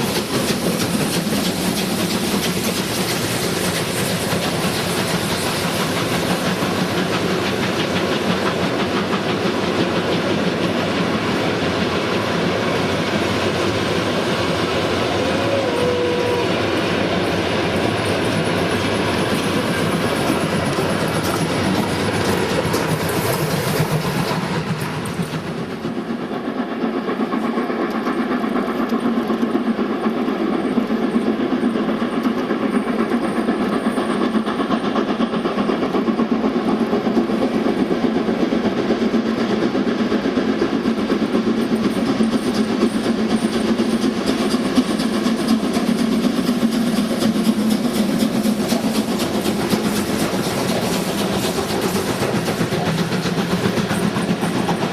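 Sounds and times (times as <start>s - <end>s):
train running on track: 0.0s - 54.9s.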